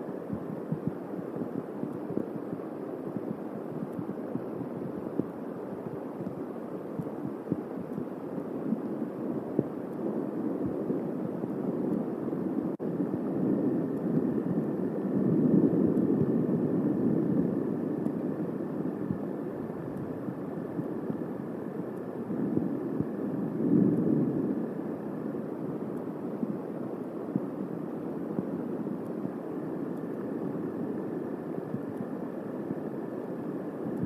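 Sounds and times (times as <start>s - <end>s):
wind rumble: 0.0s - 34.0s.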